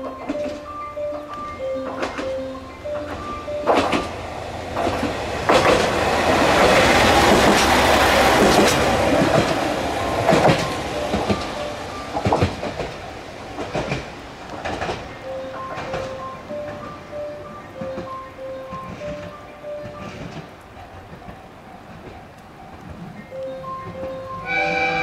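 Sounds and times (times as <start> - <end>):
wheels clacking over rail joints: 0.0 - 24.6
diesel railcar engine: 0.0 - 25.0.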